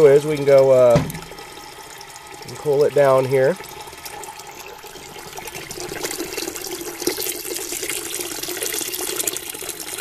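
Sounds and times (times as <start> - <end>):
water pouring into a bucket: 0.0 - 10.0.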